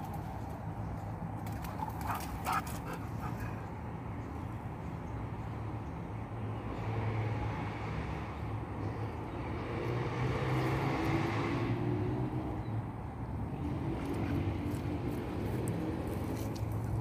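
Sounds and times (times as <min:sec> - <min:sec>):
motor vehicle engine hum: 0:00.0 - 0:17.0.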